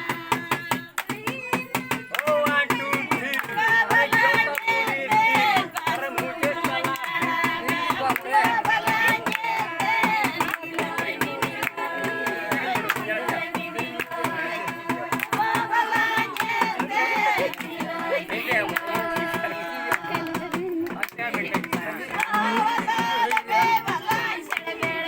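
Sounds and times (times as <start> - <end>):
percussive beat: 0.0 - 25.0
person singing: 0.0 - 25.0.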